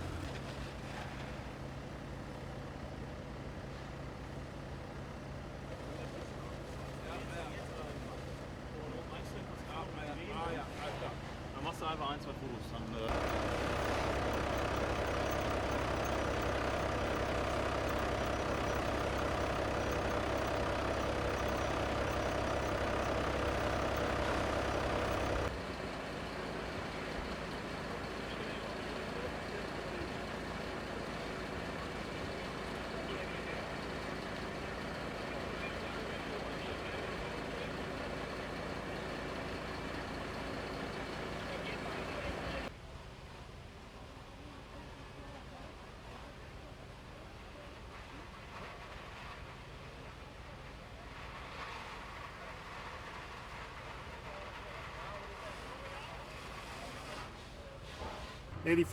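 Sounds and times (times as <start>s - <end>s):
heavy vehicle engine idling: 0.0s - 42.7s, 48.2s - 58.9s.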